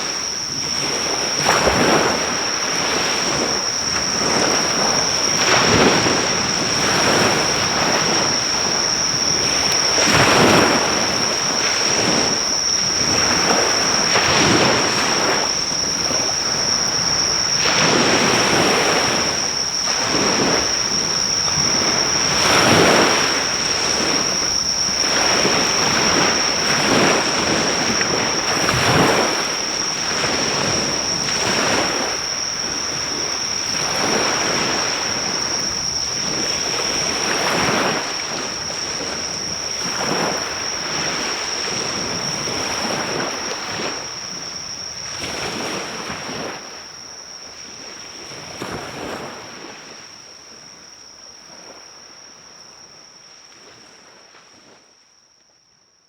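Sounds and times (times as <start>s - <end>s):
ocean waves breaking: 0.0s - 46.8s
high-pitched insect trill: 0.0s - 54.2s.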